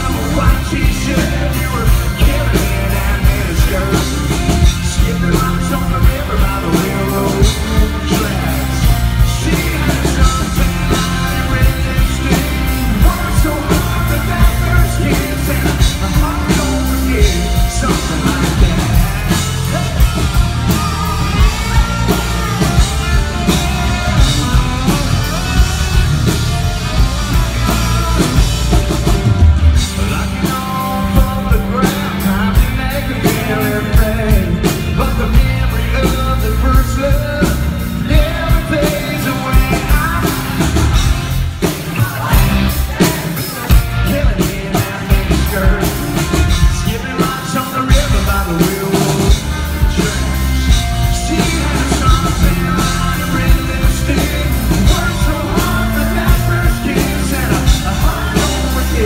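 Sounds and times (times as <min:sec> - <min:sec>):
live band playing country-pop: 0:00.0 - 0:59.0
man singing lead vocal: 0:00.0 - 0:59.0.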